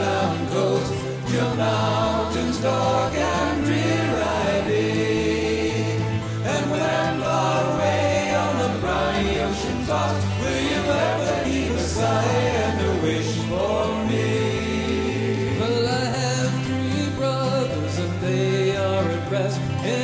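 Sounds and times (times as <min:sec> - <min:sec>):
song with singing over bass: 0:00.0 - 0:20.0.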